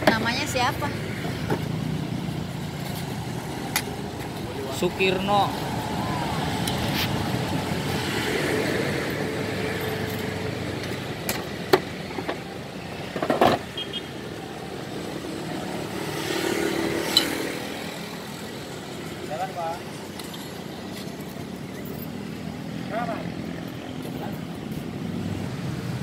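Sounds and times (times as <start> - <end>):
motorcycles and cars passing: 0.0 - 26.0.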